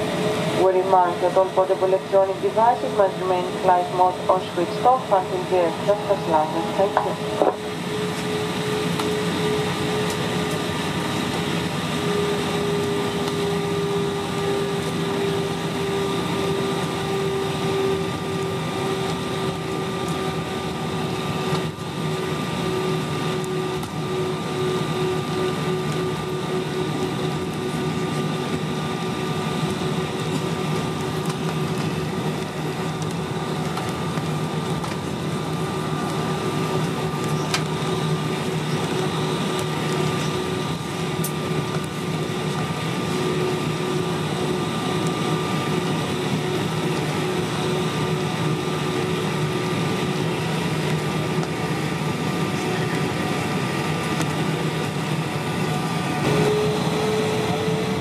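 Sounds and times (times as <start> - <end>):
aircraft cabin engine rush and whine: 0.0 - 58.0.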